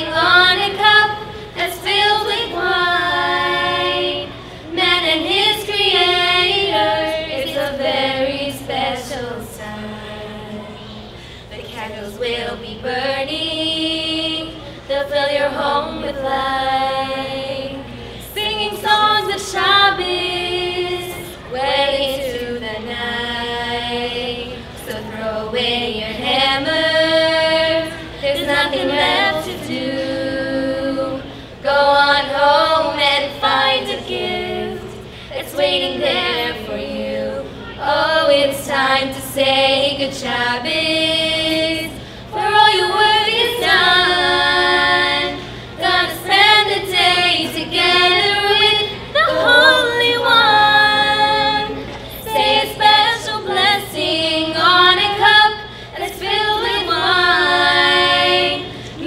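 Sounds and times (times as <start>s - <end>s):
women and girls singing a cappella: 0.0s - 59.0s.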